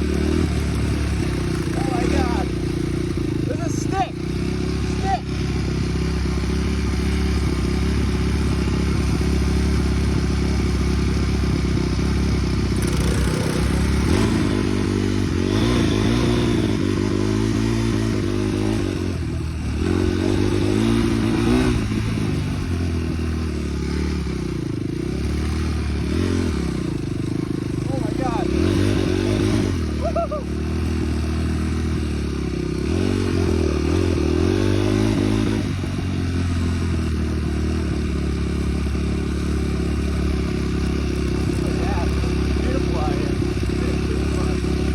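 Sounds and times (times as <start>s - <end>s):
off-road vehicle engine revving: 0.0s - 44.9s.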